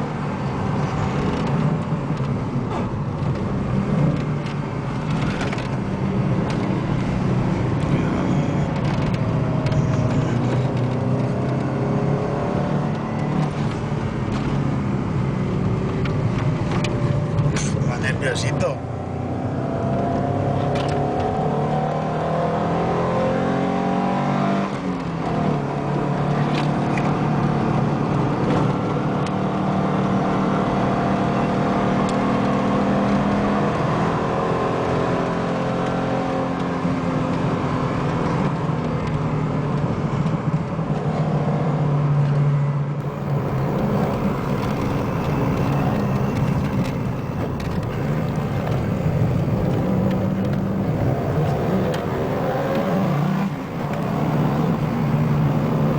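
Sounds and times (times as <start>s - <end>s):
car engine running hard: 0.0s - 42.3s, 42.9s - 55.9s.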